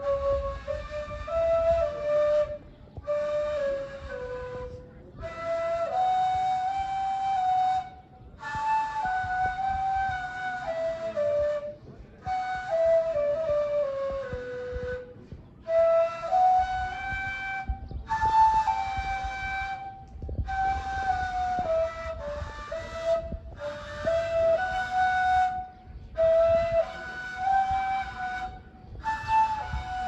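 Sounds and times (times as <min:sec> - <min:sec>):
end-blown reed flute melody: 0:00.0 - 0:30.0.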